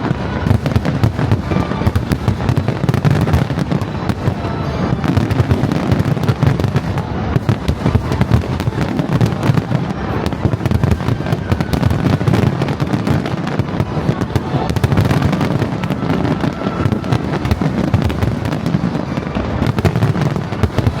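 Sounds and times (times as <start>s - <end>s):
fireworks booms and crackling: 0.0s - 21.0s.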